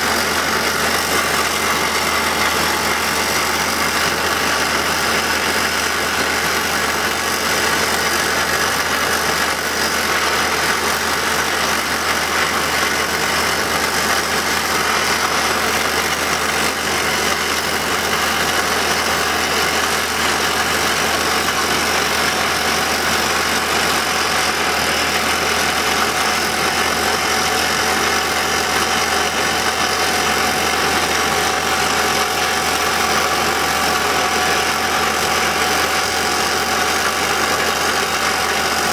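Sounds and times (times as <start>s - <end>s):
hydraulic rock drill hammering: 0.0s - 38.9s
power pack running: 0.0s - 38.9s.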